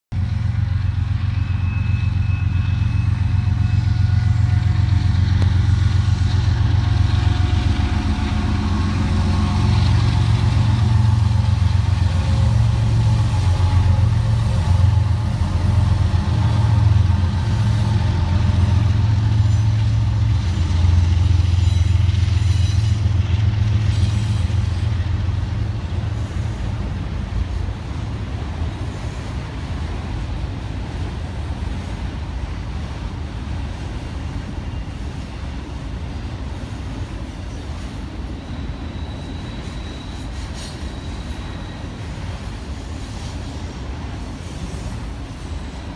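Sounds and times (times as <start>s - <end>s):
diesel locomotive engine drone: 0.1s - 45.9s
freight cars rolling on rails: 0.1s - 45.9s.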